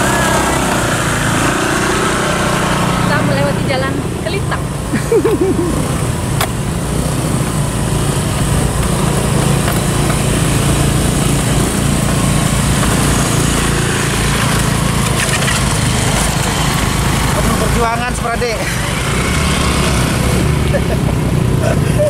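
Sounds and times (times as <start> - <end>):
scooter engines passing slowly: 0.0 - 22.0.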